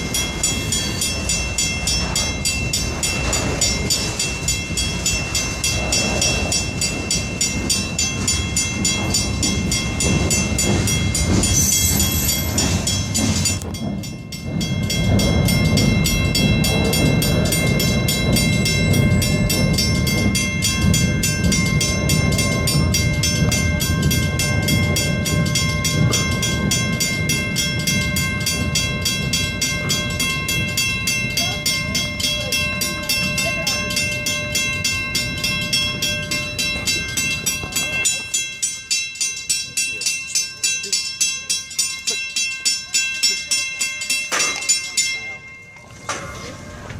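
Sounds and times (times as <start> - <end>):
freight train cars rumbling: 0.0 - 46.9
steady high ringing tones: 0.0 - 46.9.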